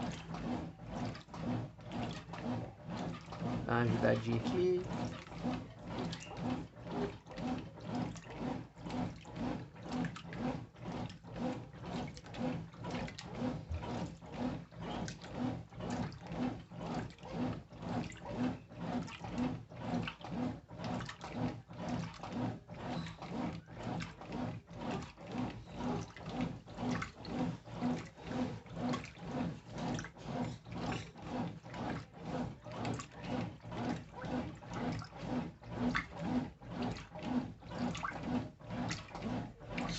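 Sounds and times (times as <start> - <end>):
washing machine sloshing: 0.0 - 39.9.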